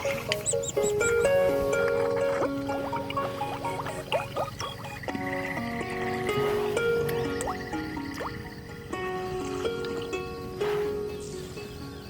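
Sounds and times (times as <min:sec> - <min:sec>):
melody of held notes: 0:00.0 - 0:12.0.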